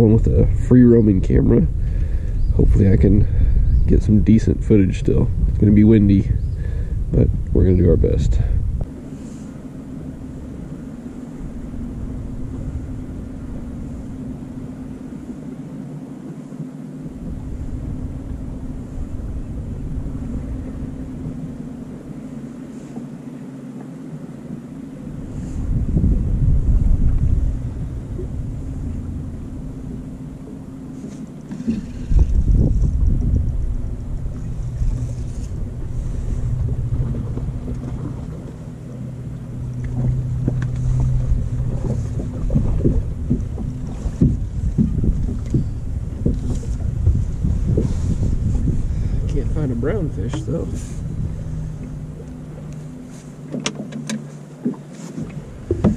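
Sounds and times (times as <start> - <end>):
wind rumbling on microphone: 0.0 - 23.2, 24.1 - 55.9
boat engine droning: 0.0 - 55.9.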